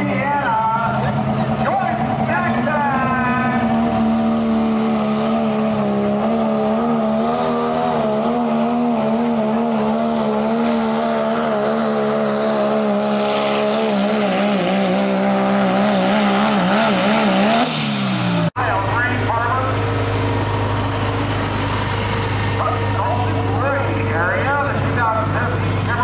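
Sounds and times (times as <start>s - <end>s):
truck engine running flat out: 0.0s - 26.0s.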